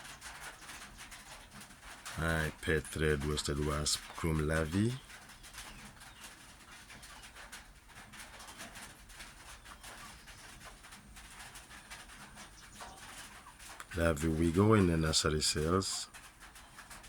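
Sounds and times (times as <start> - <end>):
rain pattering on a roof: 0.0 - 17.0.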